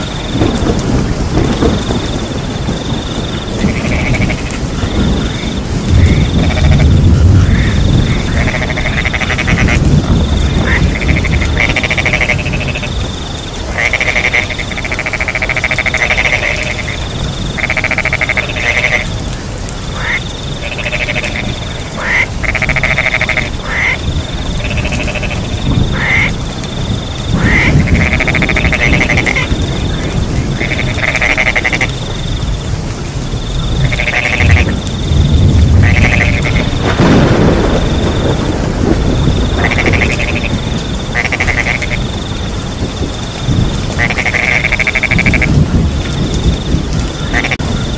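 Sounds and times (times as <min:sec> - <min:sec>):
crickets trilling: 0:00.0 - 0:47.9
frogs croaking: 0:00.0 - 0:47.9
steady rain: 0:00.0 - 0:47.9.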